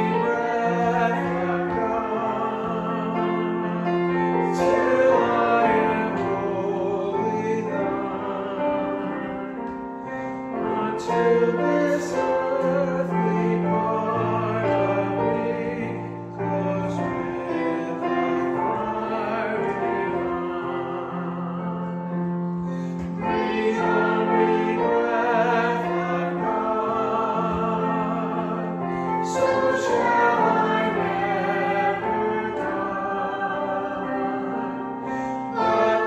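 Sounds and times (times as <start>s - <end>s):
congregation singing a hymn: 0.0s - 36.0s
piano accompaniment: 0.0s - 36.0s.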